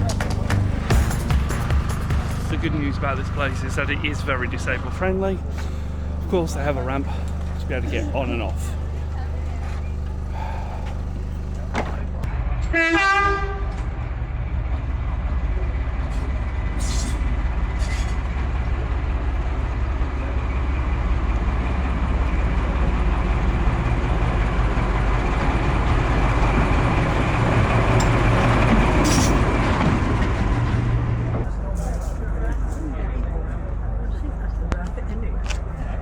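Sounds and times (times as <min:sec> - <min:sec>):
diesel locomotive engine hum: 0:00.0 - 0:36.0.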